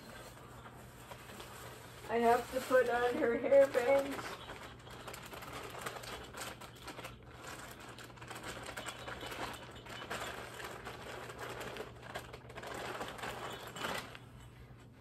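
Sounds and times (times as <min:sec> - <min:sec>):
plastic wrap rustling and crinkling: 0:00.0 - 0:15.0.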